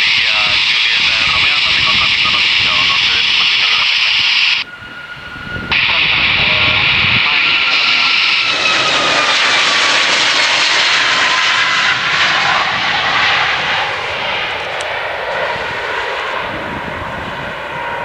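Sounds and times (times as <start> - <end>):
jet engine noise: 0.0 - 18.0
engine whine falling in pitch: 0.5 - 18.0.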